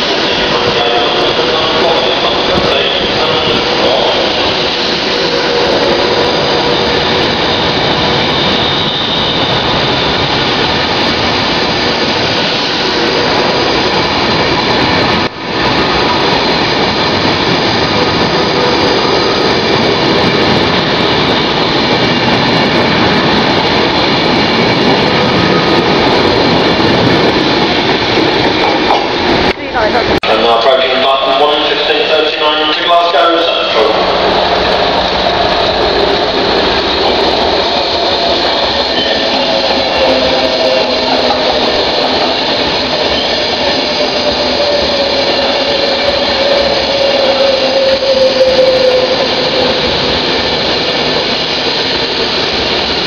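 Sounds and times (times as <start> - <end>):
electric train passing at speed: 0.0 - 53.0.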